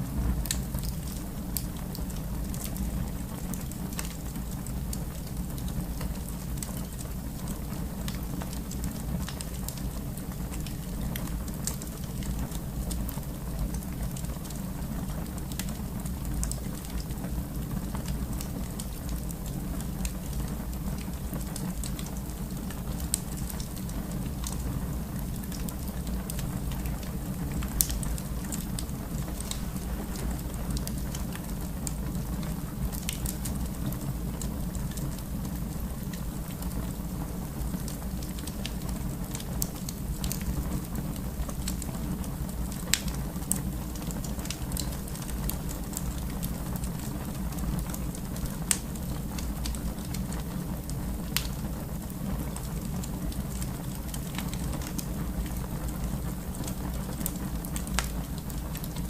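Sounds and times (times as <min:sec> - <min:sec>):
fire crackles and pops: 0:00.0 - 0:59.0
fire flames rumbling and hissing: 0:00.0 - 0:59.0.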